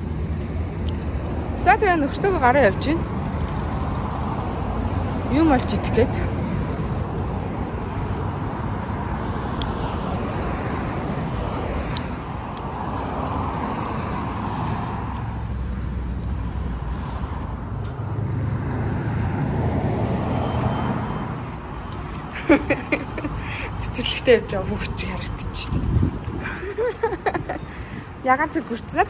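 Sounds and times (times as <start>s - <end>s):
road traffic rushing: 0.0s - 29.0s.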